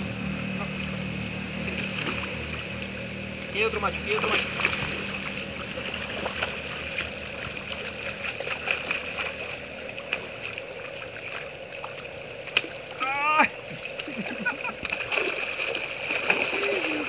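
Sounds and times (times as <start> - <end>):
pond water splashing: 0.0 - 17.0.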